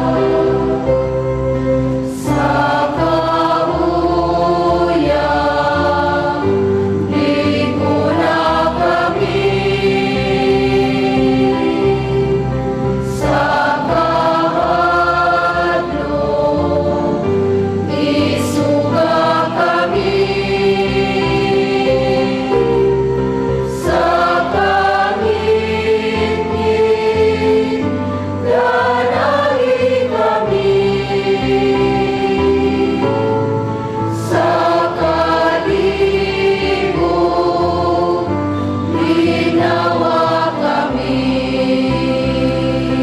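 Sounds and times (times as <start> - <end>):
choir singing a hymn: 0.0 - 43.0.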